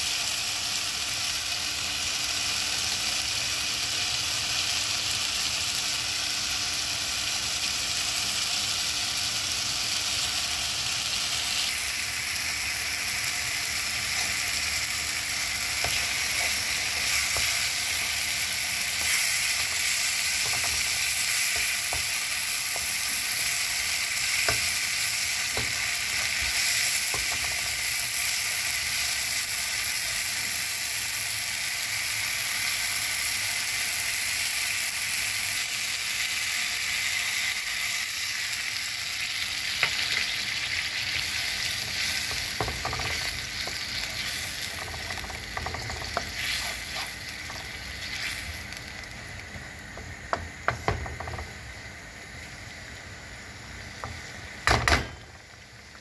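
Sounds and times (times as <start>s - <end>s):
masala sizzling in a wok: 0.0s - 56.0s.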